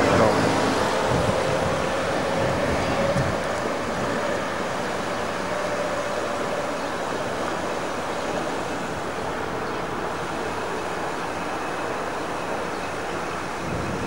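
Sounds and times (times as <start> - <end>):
car passing: 0.0 - 13.6
street noise: 0.0 - 14.0
streetcar approaching on tracks: 0.0 - 14.0.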